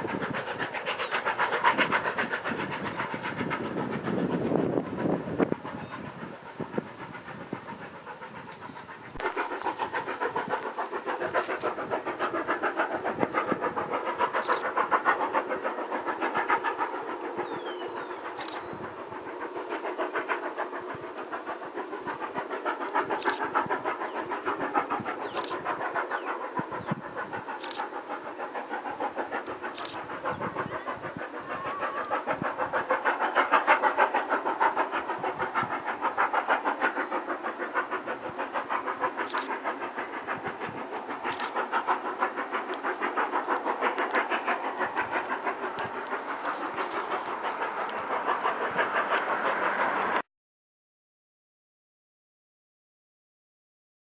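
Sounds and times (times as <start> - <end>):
distant steam locomotive exhaust: 0.0 - 50.2.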